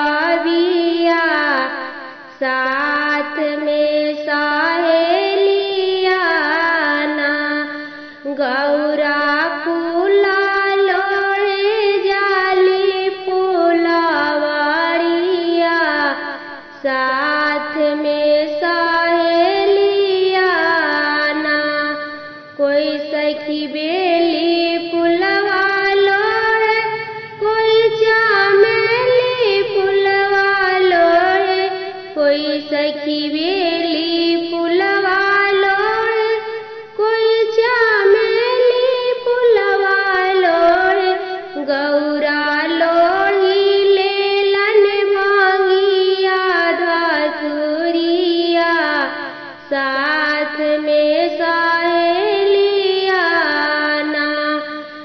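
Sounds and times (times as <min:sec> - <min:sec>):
woman singing folk song: 0:00.0 - 0:55.0.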